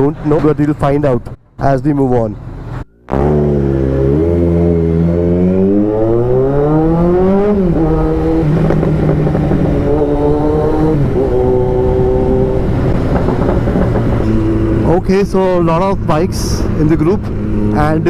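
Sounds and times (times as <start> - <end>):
motorcycle engine accelerating: 2.3 - 18.0.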